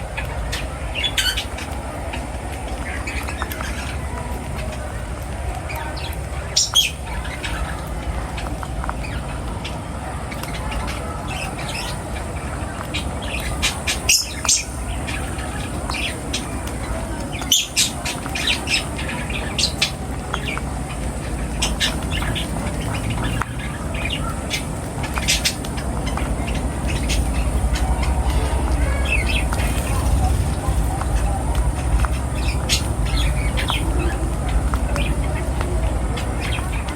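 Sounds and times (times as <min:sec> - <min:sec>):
birds squawking and chirping: 0:00.0 - 0:36.9
low background rumble: 0:00.0 - 0:36.9.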